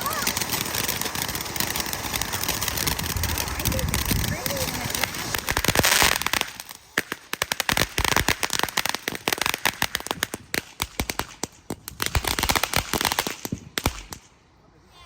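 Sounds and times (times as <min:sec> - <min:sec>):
firework crackling: 0:00.0 - 0:14.5.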